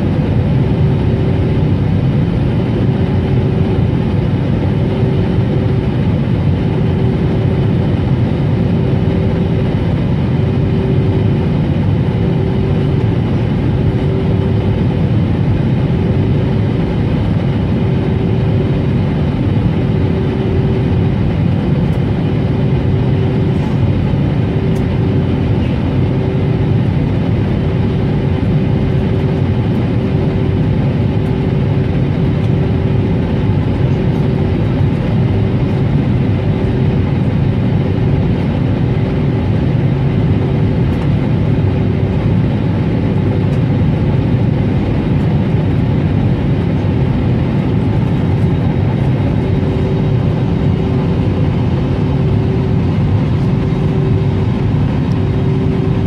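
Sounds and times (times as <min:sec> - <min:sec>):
aircraft engines droning: 0:00.0 - 0:56.0.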